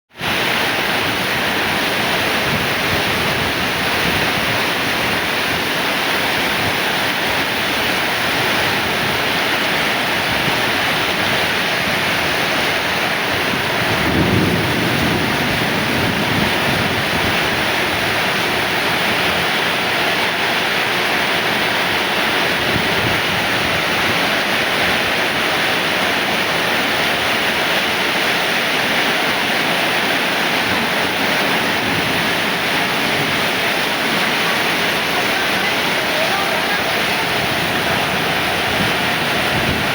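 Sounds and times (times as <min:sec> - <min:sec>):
heavy rain pouring: 0:00.1 - 0:39.9.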